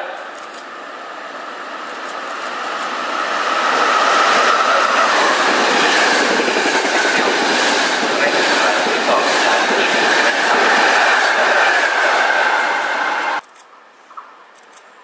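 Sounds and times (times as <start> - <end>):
passenger train passing: 0.0 - 13.5.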